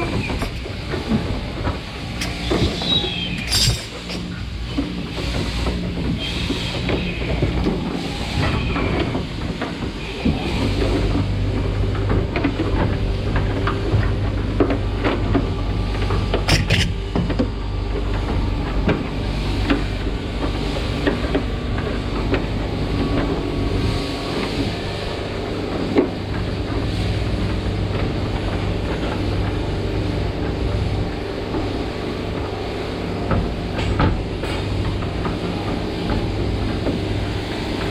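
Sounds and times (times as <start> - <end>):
deeper hum: 0.0 - 37.9
shearing machinery hum and hiss: 0.0 - 37.9.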